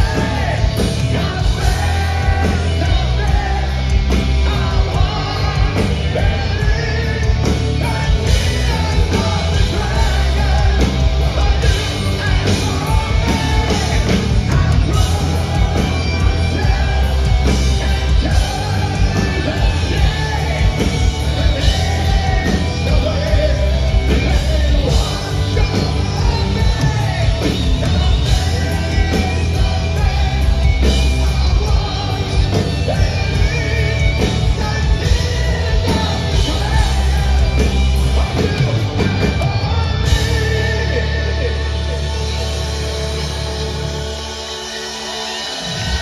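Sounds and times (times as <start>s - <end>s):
heavy rock band playing live: 0.0s - 46.0s.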